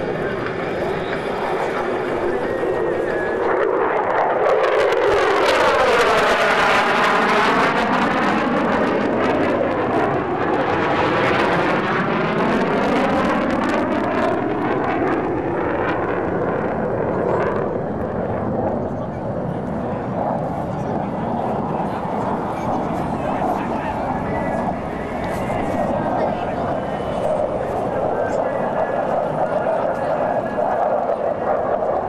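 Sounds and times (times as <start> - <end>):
jet flying past: 0.0 - 32.0.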